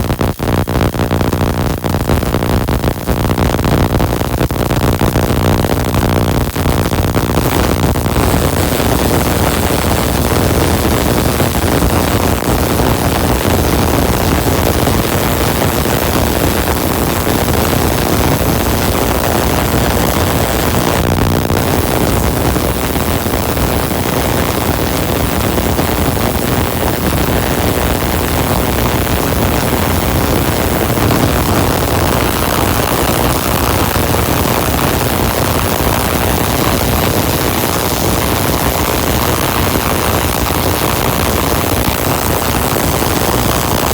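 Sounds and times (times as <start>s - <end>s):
tesla coil spark buzzing: 0.0s - 43.9s.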